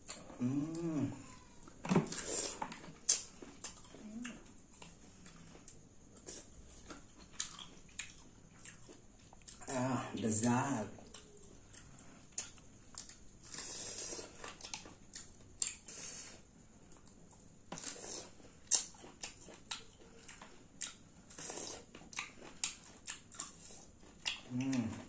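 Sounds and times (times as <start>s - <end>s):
slurping and chewing: 0.0s - 9.7s, 11.1s - 25.0s.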